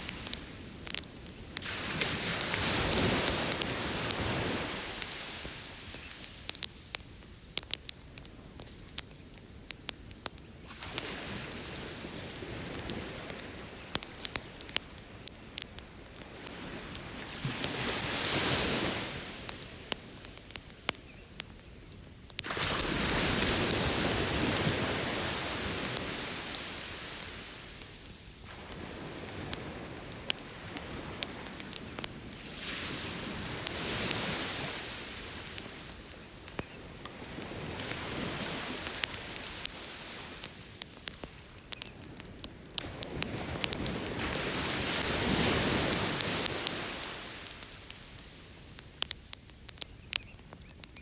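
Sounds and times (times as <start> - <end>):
ocean surf: 0.0 - 6.6, 10.7 - 20.6, 22.4 - 48.1
bonfire crackling and popping: 0.0 - 51.0.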